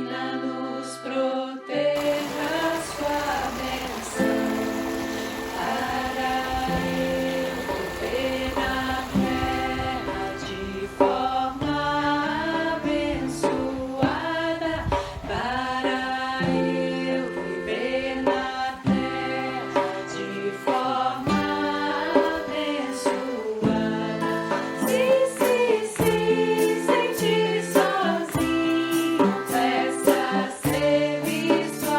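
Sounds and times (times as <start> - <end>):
slow chant-like singing: 0.0 - 31.9.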